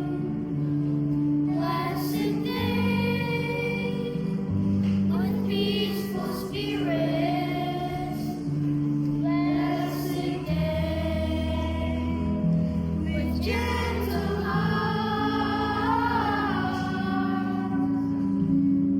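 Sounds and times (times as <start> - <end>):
children's choir singing a hymn: 0.0 - 18.9
low steady accompaniment: 0.0 - 18.9.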